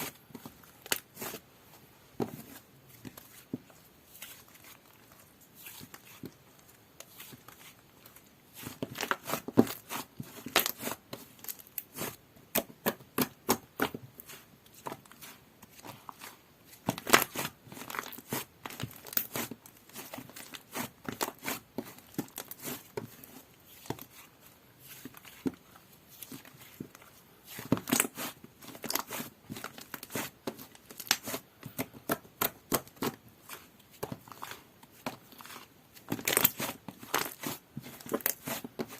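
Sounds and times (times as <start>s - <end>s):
slime squishing by hand: 0.0s - 38.9s.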